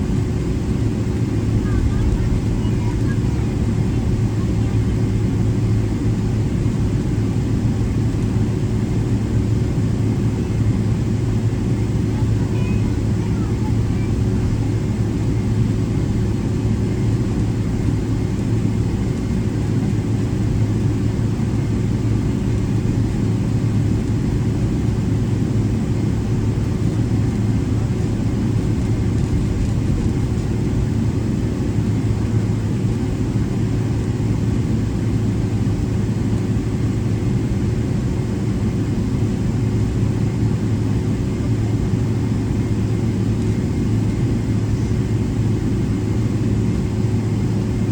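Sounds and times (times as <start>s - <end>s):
aircraft cabin engine drone: 0.0s - 47.9s
faint engine whine: 0.0s - 47.9s.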